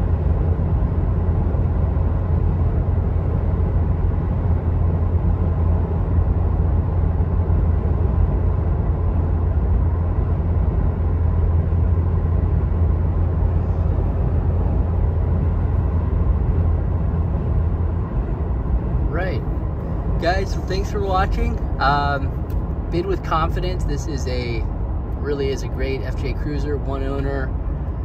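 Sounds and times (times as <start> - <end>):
car engine drone: 0.0 - 28.0
road and tyre noise: 0.0 - 28.0.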